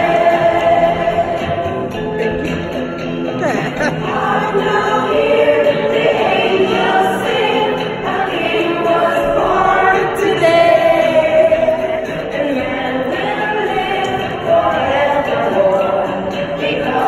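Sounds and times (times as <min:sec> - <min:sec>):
children's choir singing: 0:00.0 - 0:02.6, 0:03.7 - 0:17.0.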